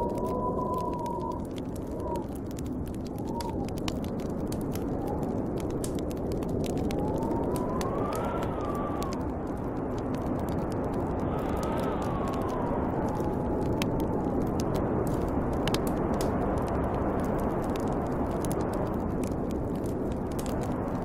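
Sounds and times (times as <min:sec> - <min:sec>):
snowstorm wind blowing: 0:00.0 - 0:21.0
whistling wind howl: 0:00.0 - 0:21.0
wood fire crackling: 0:00.0 - 0:21.0.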